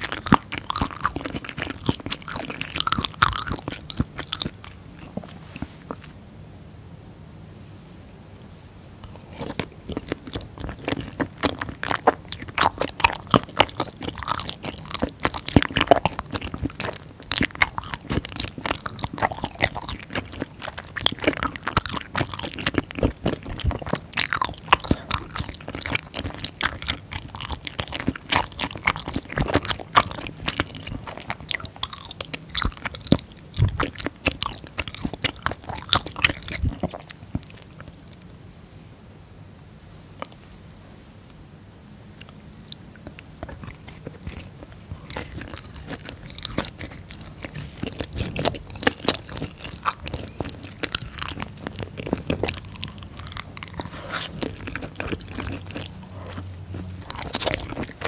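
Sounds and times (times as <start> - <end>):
person chewing: 0.0 - 6.1, 9.0 - 38.3, 40.2 - 40.8, 42.2 - 58.0.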